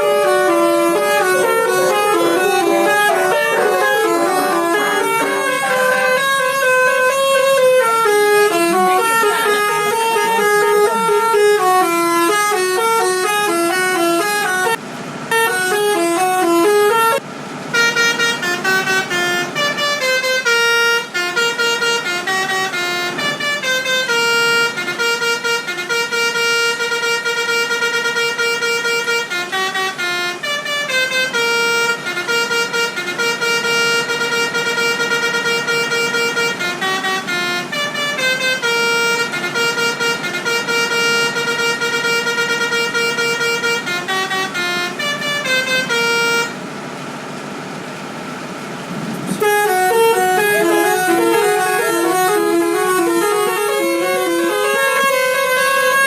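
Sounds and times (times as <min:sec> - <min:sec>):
multi-tone musical bus horn: 0:00.0 - 0:56.0.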